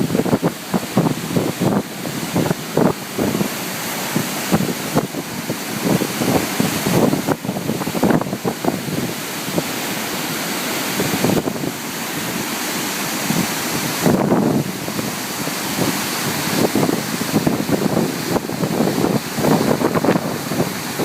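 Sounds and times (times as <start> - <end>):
water rushing at a dam: 0.0 - 21.0
wind buffeting microphone: 0.0 - 21.0.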